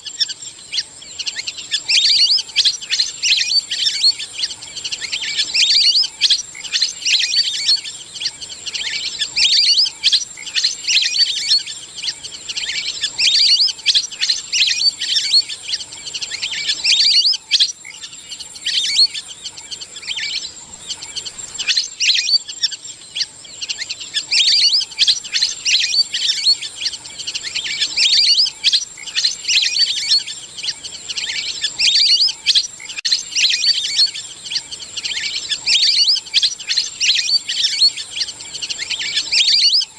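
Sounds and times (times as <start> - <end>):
ducks whistling calls: 0.0 - 39.9.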